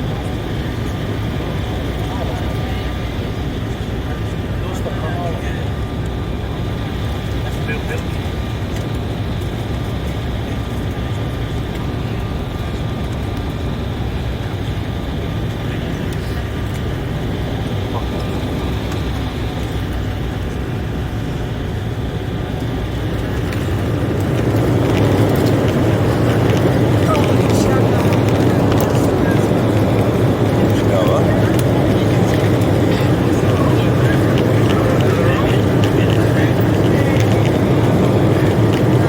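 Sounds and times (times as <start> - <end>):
jet engine cabin noise: 0.0 - 39.0.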